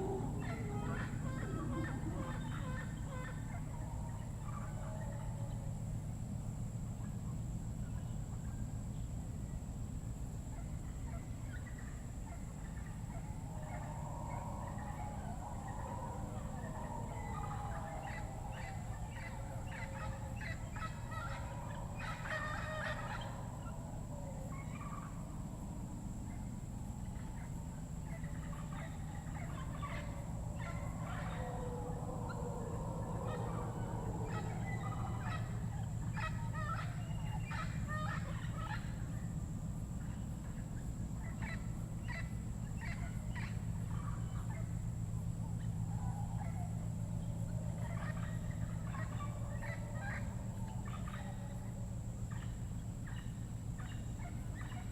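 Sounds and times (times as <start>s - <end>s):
steady high whine: 0.0s - 22.3s, 23.0s - 54.9s
low steady hum: 0.0s - 54.9s
lower wavering calls: 0.0s - 54.9s.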